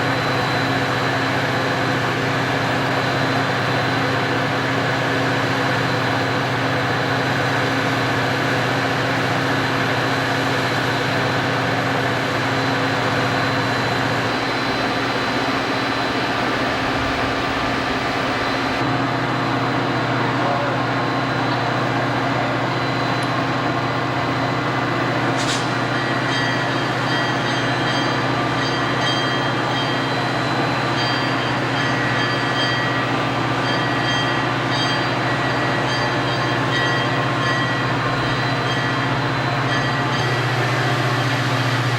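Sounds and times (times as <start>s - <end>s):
train running on rails: 0.0s - 41.9s.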